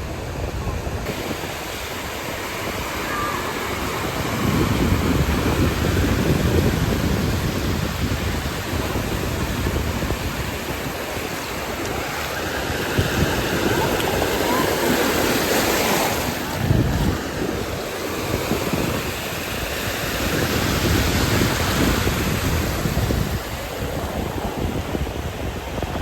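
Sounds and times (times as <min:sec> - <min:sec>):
surf washing ashore: 0:00.0 - 0:26.0
wind rushing over microphone: 0:00.0 - 0:26.0.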